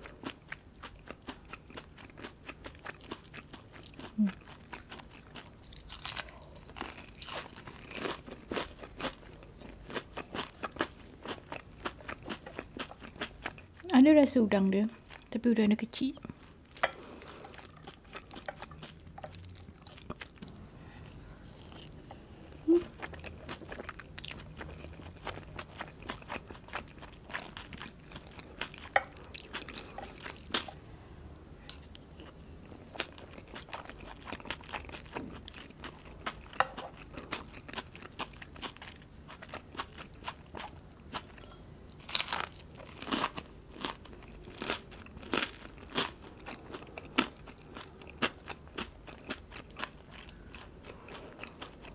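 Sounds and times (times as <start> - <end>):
chewing: 0.0 - 13.8, 16.2 - 20.6, 21.4 - 30.8, 31.7 - 51.9.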